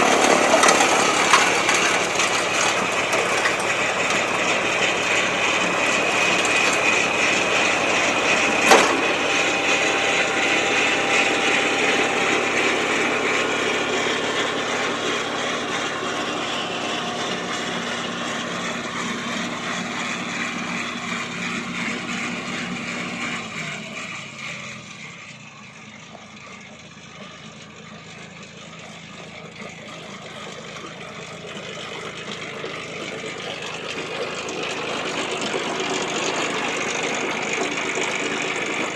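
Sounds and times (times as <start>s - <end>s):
snowblower running: 0.0s - 38.9s
tractor diesel engine running: 0.0s - 38.9s.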